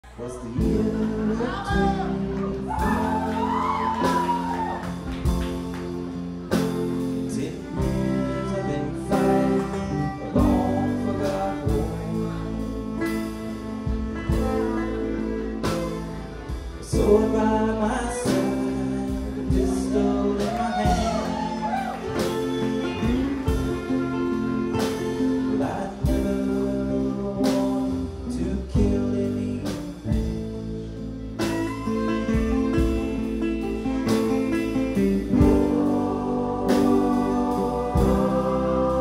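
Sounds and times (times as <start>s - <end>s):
person singing: 0.0s - 30.8s, 31.4s - 39.0s
acoustic guitar picking: 4.2s - 20.8s, 22.0s - 39.0s
banjo picking: 5.0s - 39.0s.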